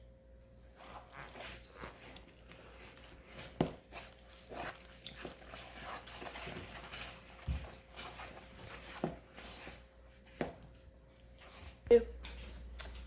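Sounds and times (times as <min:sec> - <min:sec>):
stirring dough in a bowl: 0:00.5 - 0:13.0.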